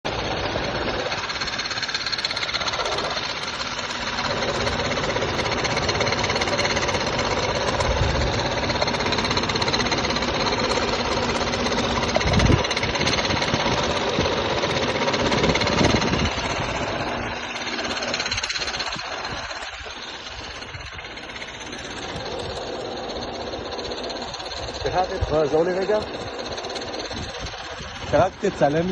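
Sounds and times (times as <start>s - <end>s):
car engine clattering: 0.0s - 28.9s.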